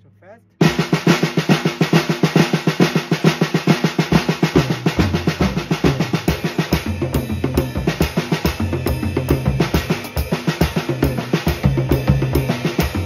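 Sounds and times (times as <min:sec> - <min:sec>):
bass drum notes: 0:00.0 - 0:13.0
snare drum rudiment: 0:00.6 - 0:13.0.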